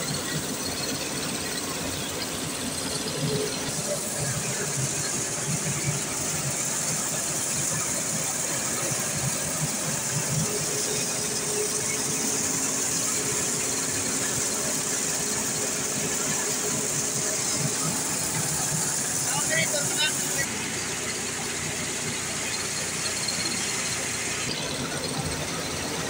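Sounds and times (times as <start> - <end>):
rice milling machine drone: 0.0 - 26.0.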